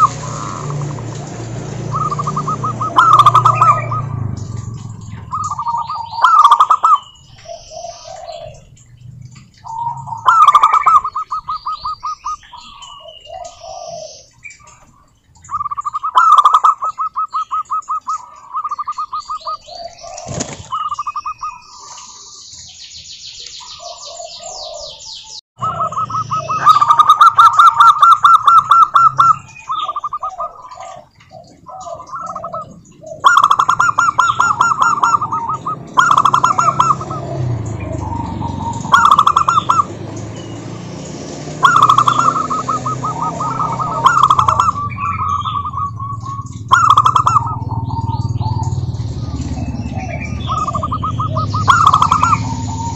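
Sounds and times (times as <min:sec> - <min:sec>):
doves cooing: 0:00.0 - 0:22.3, 0:23.6 - 0:52.9
small birds chirping: 0:00.0 - 0:52.9.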